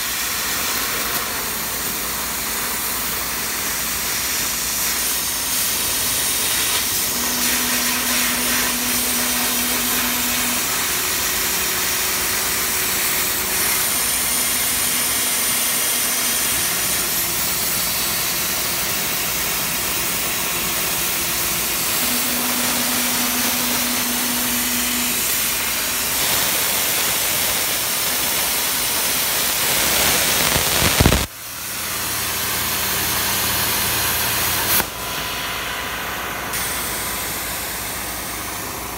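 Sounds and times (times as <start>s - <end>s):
plasma cutter hissing: 0.0s - 35.8s, 36.4s - 38.8s.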